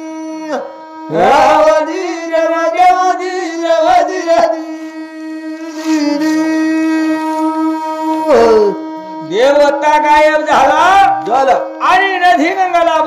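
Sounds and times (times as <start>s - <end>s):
buzzing instrumental drone: 0.0s - 13.0s
man singing a chant: 0.0s - 13.0s.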